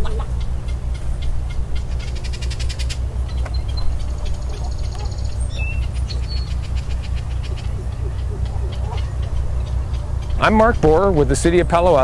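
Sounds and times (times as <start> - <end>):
high bird clicks: 0.0 - 10.7
bird chirps: 0.0 - 12.0
buzzy bird call: 0.0 - 12.0
steady low rumble: 0.0 - 12.0.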